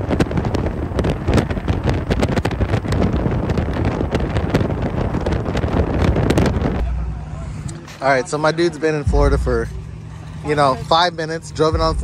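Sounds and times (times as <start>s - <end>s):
vehicle road noise: 0.0s - 12.0s
wind buffeting microphone: 0.0s - 12.0s.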